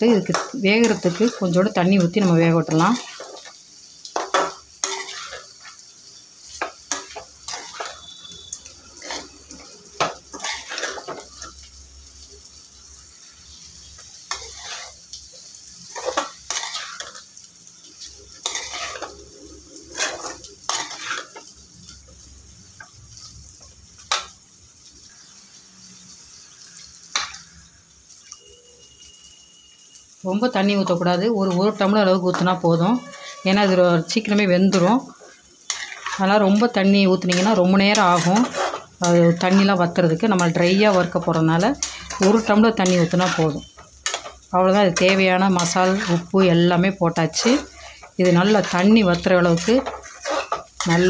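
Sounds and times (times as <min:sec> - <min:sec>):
spoon scraping a cooking pan: 0:00.0 - 0:11.7, 0:12.5 - 0:22.2, 0:26.0 - 0:27.6, 0:30.8 - 0:51.0
faint sizzle: 0:00.0 - 0:51.0.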